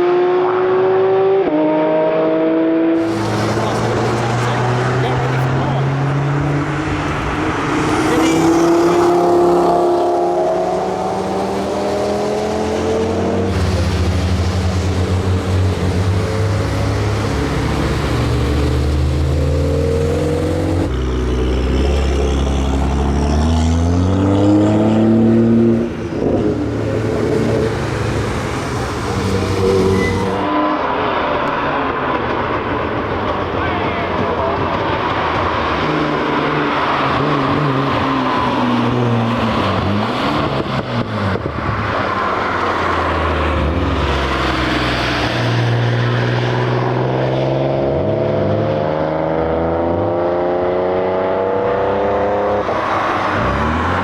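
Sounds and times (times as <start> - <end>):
race cars revving past: 0.0 - 54.0.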